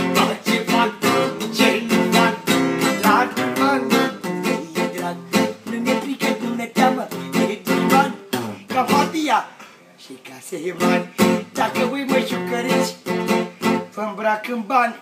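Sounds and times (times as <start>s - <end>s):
acoustic guitar strumming: 0.0s - 9.4s, 10.7s - 14.3s.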